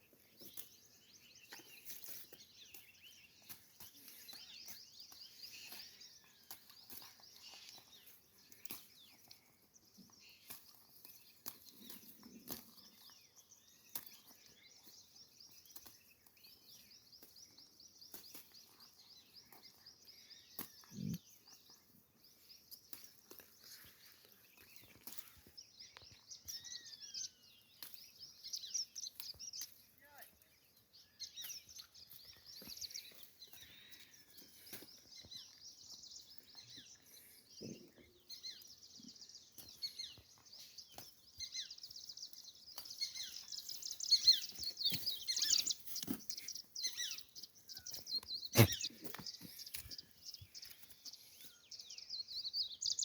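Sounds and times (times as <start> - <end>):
faint birds chirping: 0.0 - 53.0.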